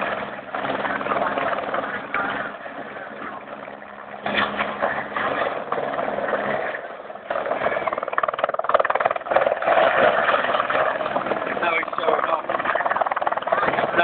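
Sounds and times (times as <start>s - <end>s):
helicopter engine running: 0.0s - 14.0s
helicopter rotor chop: 0.0s - 14.0s.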